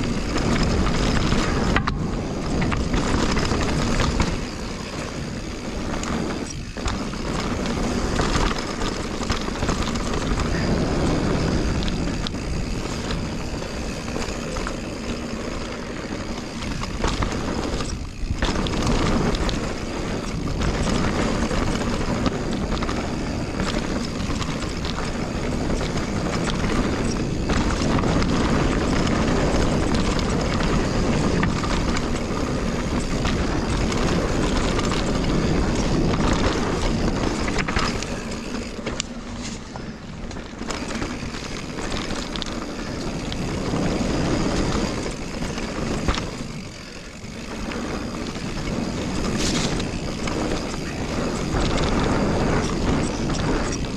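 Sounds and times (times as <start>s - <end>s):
bike knocks and rattles: 0.0s - 53.9s
tyres rolling over dirt: 0.0s - 53.9s
wind rush on microphone: 0.0s - 53.9s.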